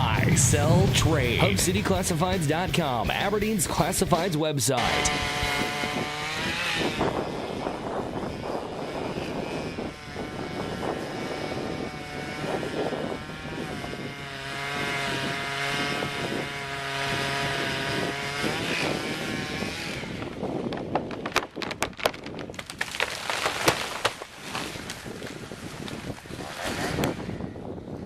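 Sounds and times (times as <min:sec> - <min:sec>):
chainsaw cutting tree trunk: 0:04.8 - 0:27.9.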